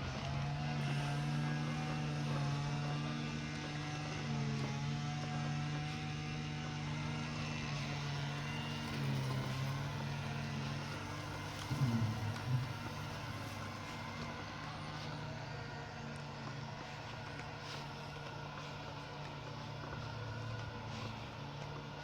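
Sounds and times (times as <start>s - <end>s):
robot mower motor hum: 0.0s - 22.0s.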